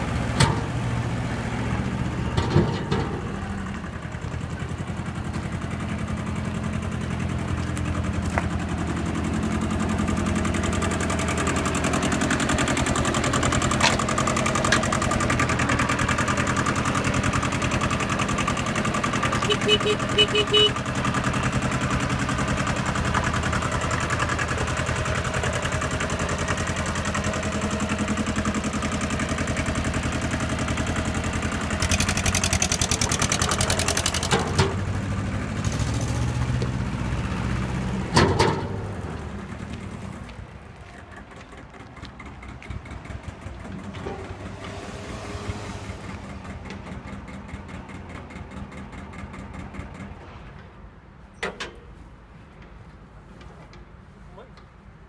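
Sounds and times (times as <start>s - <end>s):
tractor diesel engine revving: 0.0s - 40.3s, 41.2s - 50.2s.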